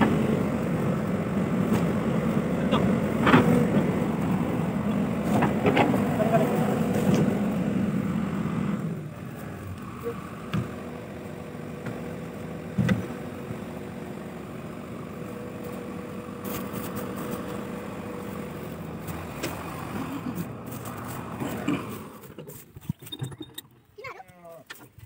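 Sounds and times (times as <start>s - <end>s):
excavator diesel engine idling: 0.0s - 22.8s.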